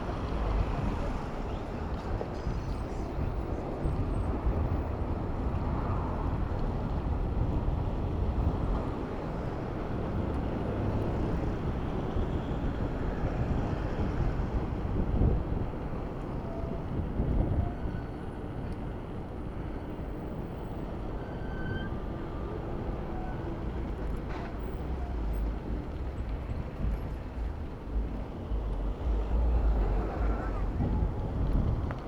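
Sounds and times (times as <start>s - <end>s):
wind buffeting microphone: 0.0s - 18.0s, 23.5s - 32.0s
road traffic rumble: 0.0s - 21.2s, 21.8s - 32.0s.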